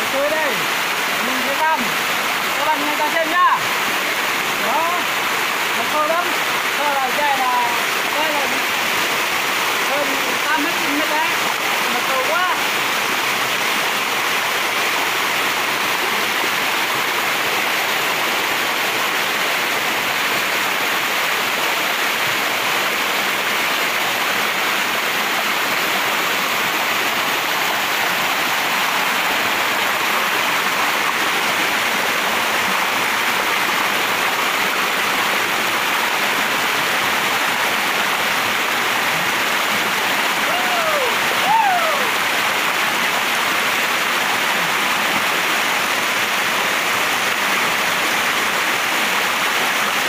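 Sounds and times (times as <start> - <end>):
water rushing over rocks: 0.0 - 50.0.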